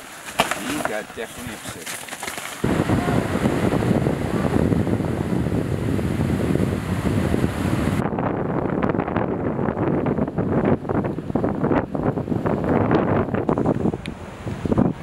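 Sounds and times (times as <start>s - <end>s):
wind buffeting microphone: 2.6s - 15.0s.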